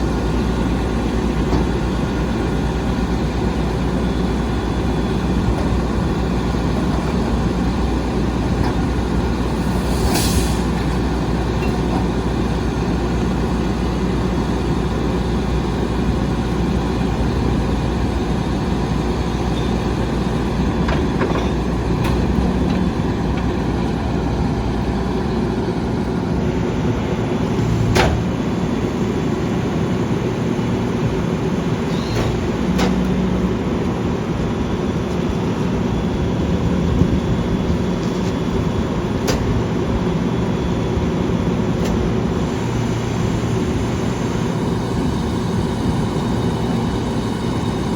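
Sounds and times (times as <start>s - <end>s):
garbage truck diesel engine running: 0.0s - 47.9s.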